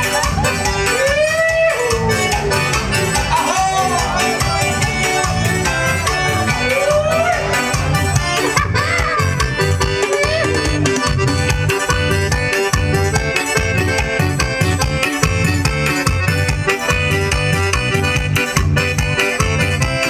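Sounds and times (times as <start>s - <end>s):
accordion: 0.0s - 20.0s
band playing folk dance music: 0.0s - 20.0s
repeating bass beat: 0.0s - 20.0s.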